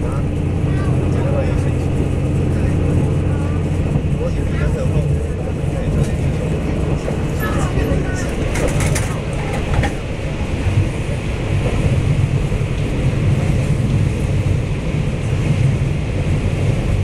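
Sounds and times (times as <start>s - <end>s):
train rumbling through tunnel: 0.0s - 17.0s.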